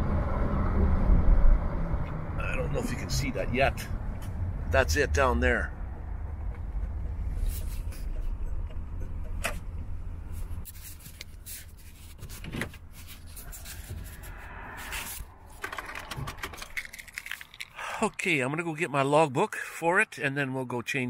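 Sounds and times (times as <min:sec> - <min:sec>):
van engine rumble: 0:00.0 - 0:18.1.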